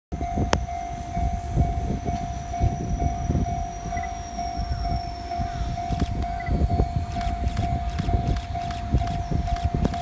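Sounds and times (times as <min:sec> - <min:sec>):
level crossing warning bell: 0:00.1 - 0:10.0.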